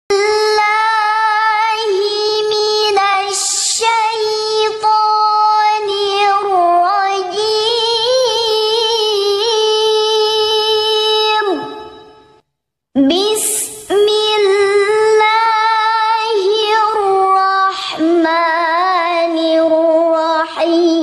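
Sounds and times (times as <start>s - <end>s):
girl chanting into microphone: 0.1s - 12.0s, 13.0s - 21.0s.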